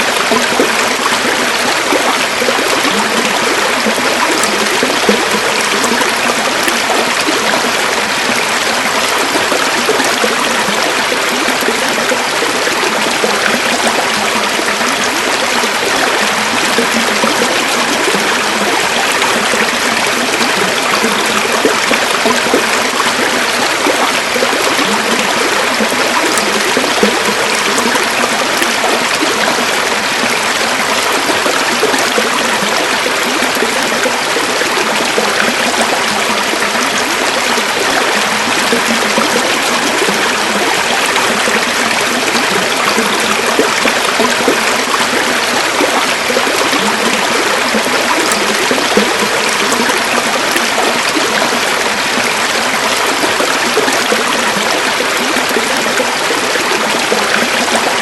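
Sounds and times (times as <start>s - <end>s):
river water babbling over stones: 0.0s - 58.0s.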